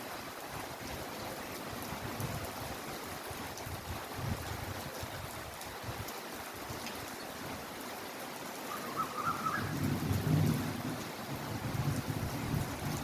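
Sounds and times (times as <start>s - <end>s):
heavy rainfall: 0.0s - 13.0s.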